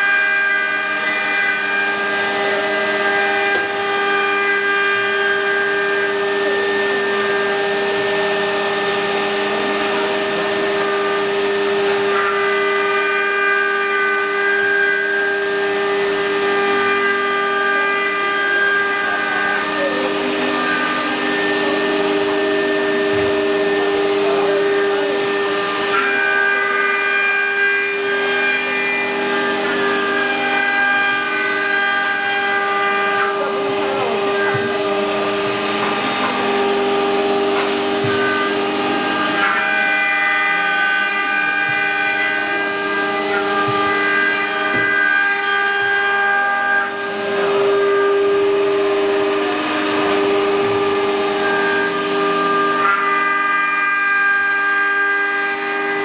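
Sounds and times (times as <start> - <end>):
wood router spindles whining: 0.0 - 56.0.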